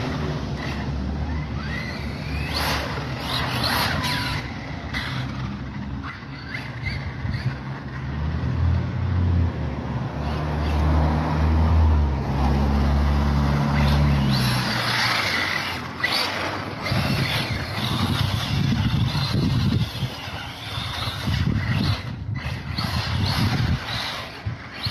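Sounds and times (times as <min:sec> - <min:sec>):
vehicle engine drone: 0:00.0 - 0:24.9.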